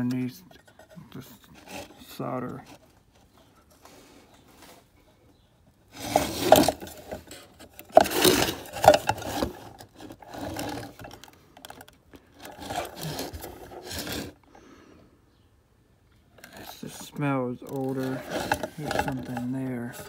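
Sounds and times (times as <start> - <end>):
rough rubbing and scraping: 0.0 - 5.0, 5.9 - 11.3, 12.2 - 14.5, 16.4 - 20.0.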